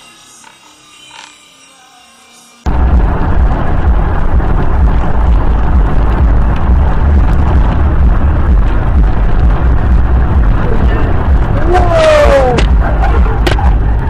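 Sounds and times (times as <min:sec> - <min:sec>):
moving car rumble and wind noise: 0:02.6 - 0:14.0.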